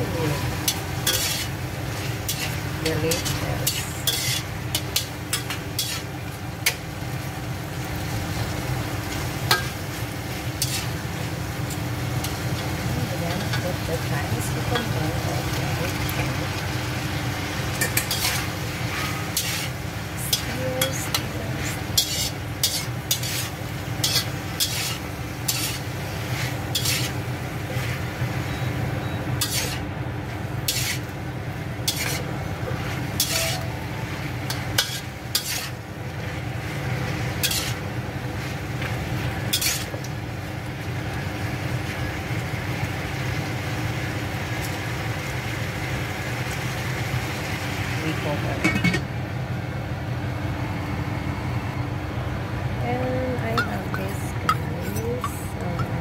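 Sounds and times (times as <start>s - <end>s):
food sizzling: 0.0s - 49.1s, 52.7s - 56.0s.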